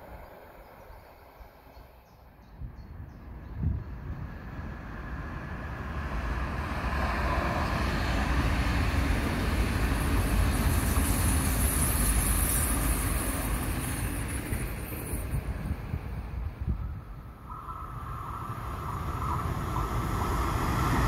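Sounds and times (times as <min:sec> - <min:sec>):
train passing: 0:00.0 - 0:02.5, 0:03.2 - 0:21.0.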